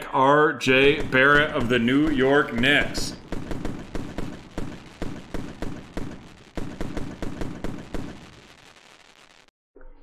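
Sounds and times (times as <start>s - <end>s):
fireworks bangs and crackling: 0.6s - 9.5s.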